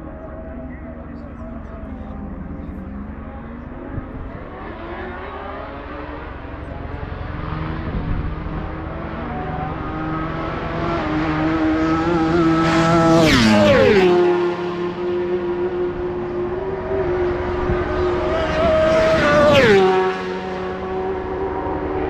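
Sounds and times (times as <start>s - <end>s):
racing motorcycle engine approaching: 0.0s - 22.0s.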